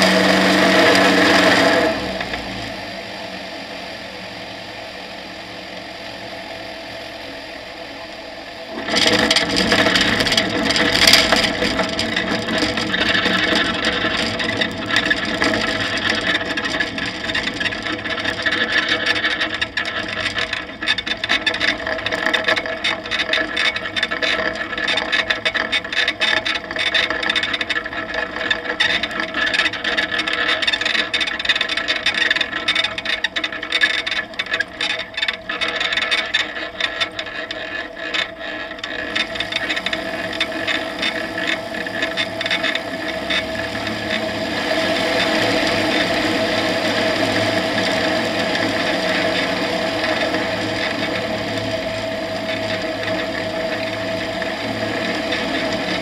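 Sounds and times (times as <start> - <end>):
light aircraft engine idling: 0.0 - 56.0
wheels rattling over bumpy grass: 0.0 - 56.0.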